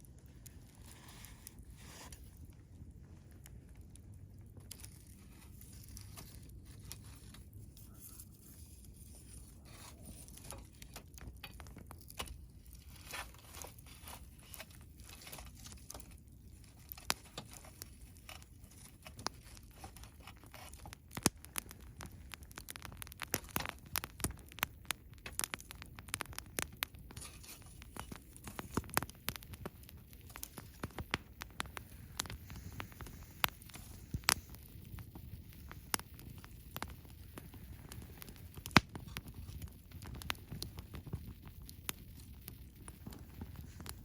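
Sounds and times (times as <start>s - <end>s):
burning wood popping: 0.0s - 44.0s
campfire crackling: 0.0s - 44.0s.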